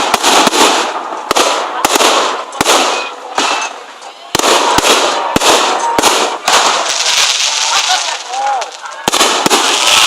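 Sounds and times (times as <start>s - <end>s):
fireworks bangs: 0.0s - 10.0s
fireworks crackling hiss: 0.0s - 10.0s.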